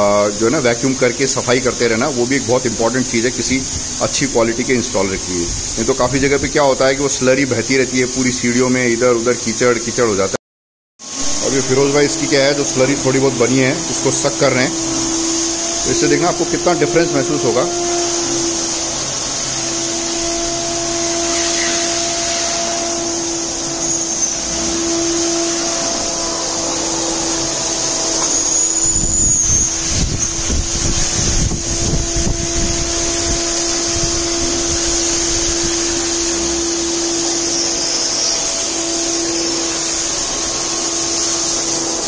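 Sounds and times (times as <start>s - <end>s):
wet-dry vacuum cleaner running: 0.0s - 10.2s, 11.0s - 42.0s.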